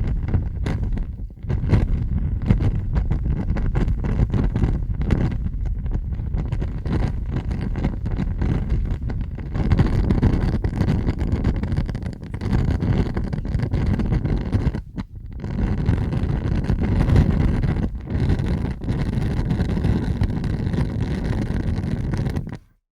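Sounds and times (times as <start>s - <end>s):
fire crackles: 0.0s - 22.6s
fire roaring: 0.0s - 22.6s.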